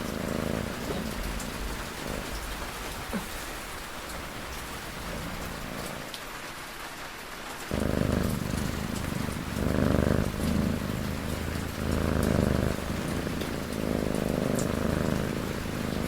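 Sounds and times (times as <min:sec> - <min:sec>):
cat snoring: 0:00.0 - 0:06.0, 0:07.7 - 0:16.0
steady rain: 0:00.0 - 0:16.0.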